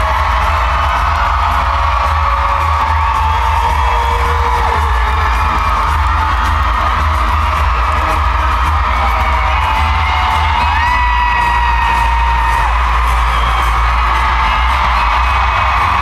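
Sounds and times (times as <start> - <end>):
live pop music through loudspeakers: 0.0 - 16.0.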